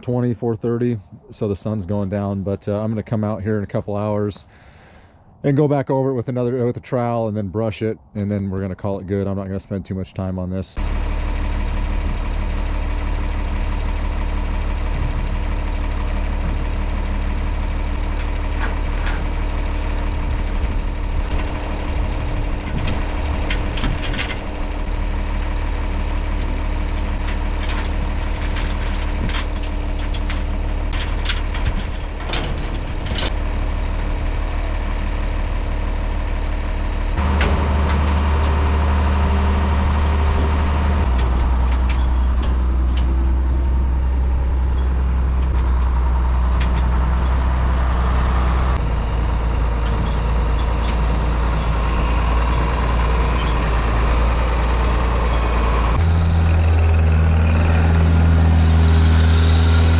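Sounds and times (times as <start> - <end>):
large engine idling: 10.8 - 59.9.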